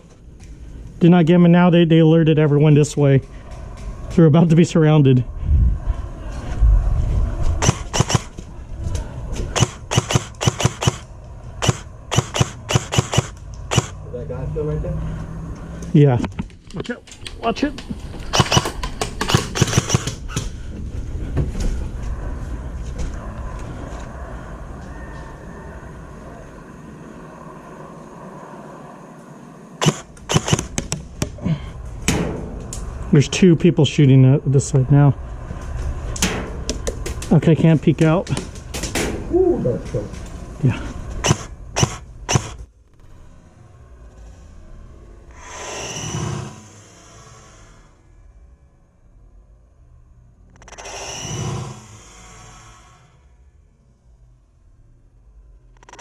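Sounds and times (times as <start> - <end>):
low rumble: 0.0 - 56.0.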